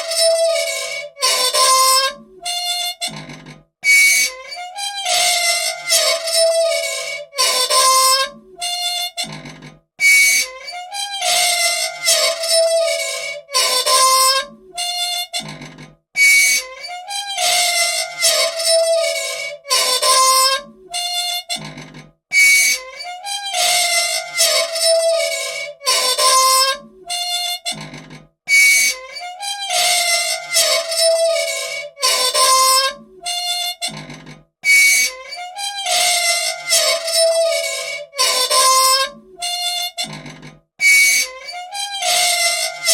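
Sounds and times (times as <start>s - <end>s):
machine parts squeaking: 0.0s - 42.9s.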